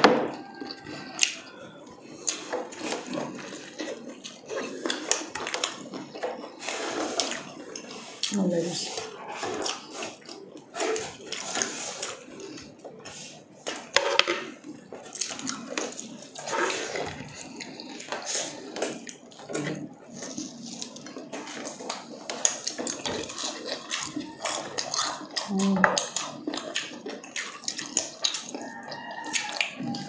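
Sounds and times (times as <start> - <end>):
wet chewing: 0.0 - 30.0.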